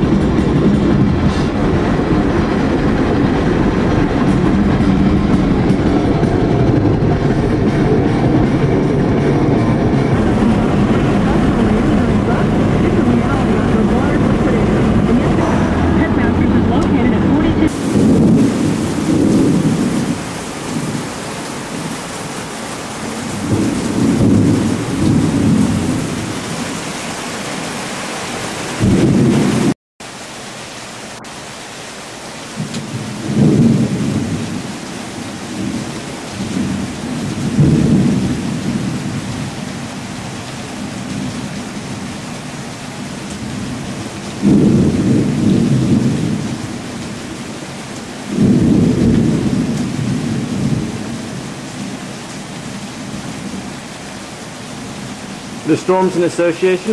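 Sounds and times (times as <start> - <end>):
thunder rumbling: 0.0 - 29.8, 32.5 - 56.9
steady rain: 0.0 - 56.9.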